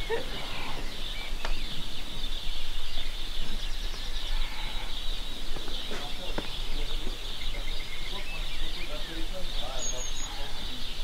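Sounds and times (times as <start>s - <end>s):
high-pitched chirping chorus: 0.0s - 11.0s.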